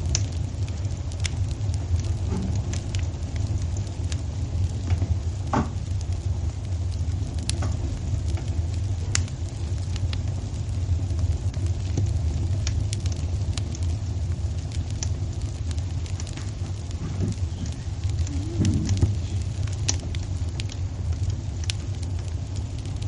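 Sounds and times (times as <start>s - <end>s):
fire crackles and pops: 0.0s - 23.0s
fire rumbling in fireplace: 0.0s - 23.0s.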